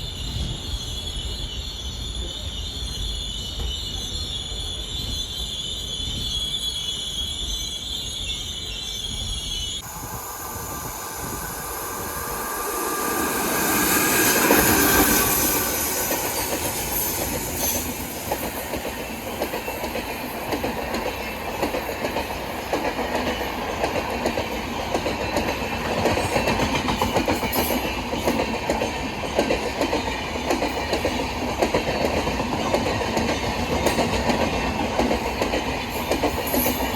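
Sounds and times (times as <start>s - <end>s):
train passing close by: 0.0s - 36.9s.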